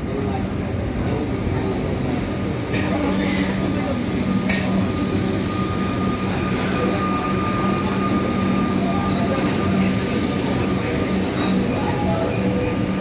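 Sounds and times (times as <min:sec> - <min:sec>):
electric train rumbling and whining: 0:00.0 - 0:13.0.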